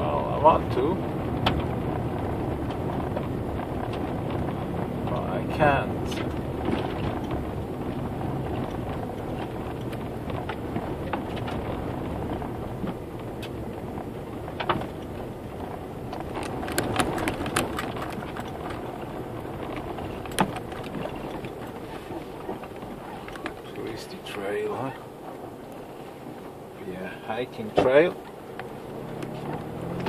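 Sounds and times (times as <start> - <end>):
engine and road rumble: 0.0 - 30.0
rattles and knocks from bumps: 0.7 - 25.6.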